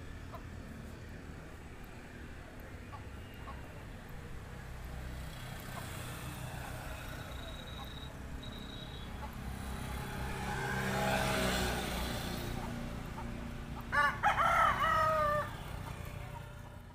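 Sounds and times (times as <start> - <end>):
vehicle passing: 0.0 - 16.9.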